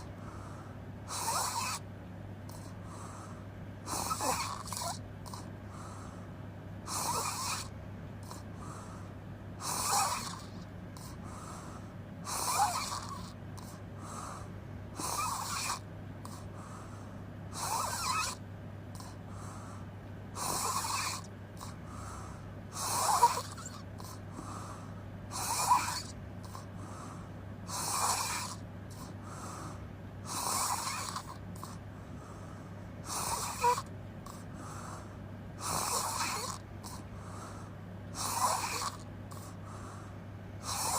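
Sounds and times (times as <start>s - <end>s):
person snoring: 0.0s - 1.8s, 2.5s - 6.2s, 6.8s - 18.4s, 19.0s - 40.9s
steady low hum: 0.0s - 40.9s.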